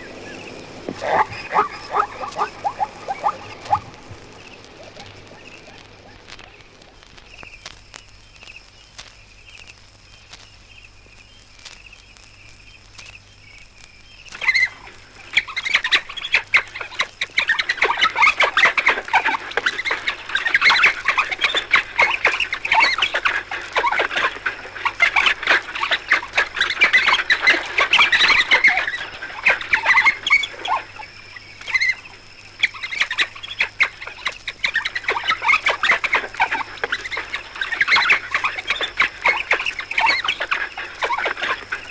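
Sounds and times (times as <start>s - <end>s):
wild dogs twittering: 0.0s - 7.2s, 14.3s - 41.9s
record hiss: 0.0s - 41.9s.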